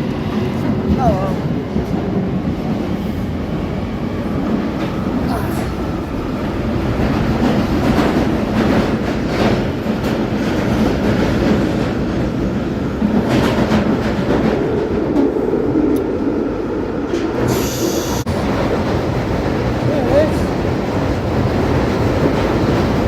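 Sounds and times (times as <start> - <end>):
train rumbling in tunnel: 0.0 - 23.0.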